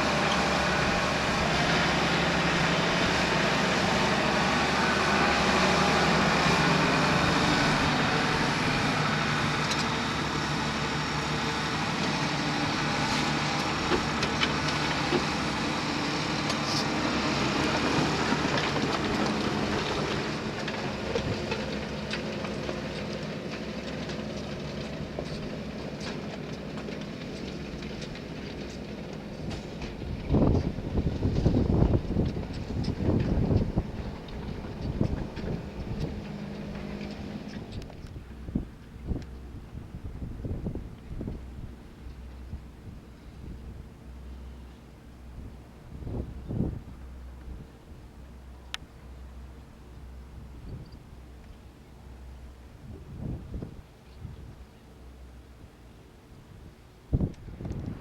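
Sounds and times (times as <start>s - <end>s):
tractor diesel engine ploughing: 0.0s - 58.0s.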